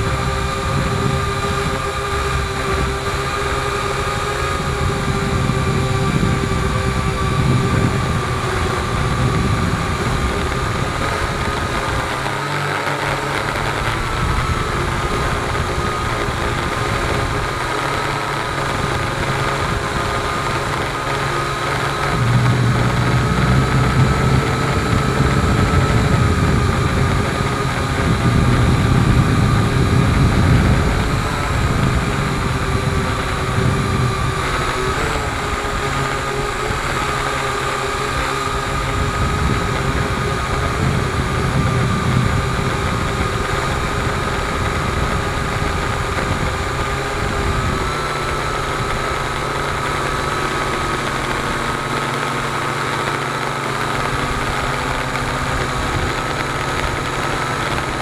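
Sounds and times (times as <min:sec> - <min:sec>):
drone motors whining: 0:00.0 - 0:58.0
low rumble of buffeting air: 0:00.0 - 0:58.0.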